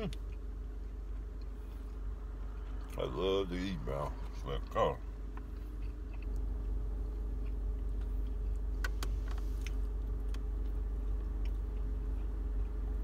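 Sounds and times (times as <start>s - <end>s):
chewing a sandwich: 0.0s - 3.2s, 3.8s - 8.9s, 9.6s - 13.0s
car engine hum inside cabin: 0.0s - 13.0s.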